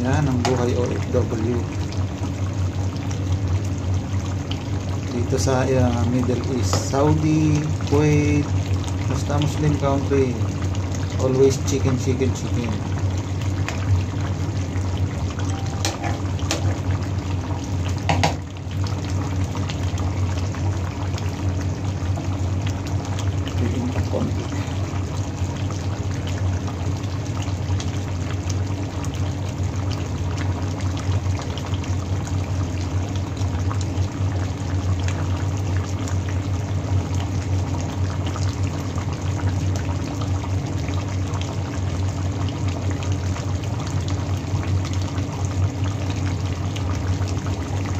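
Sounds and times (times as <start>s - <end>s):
sauce bubbling in a pan: 0.0s - 47.9s.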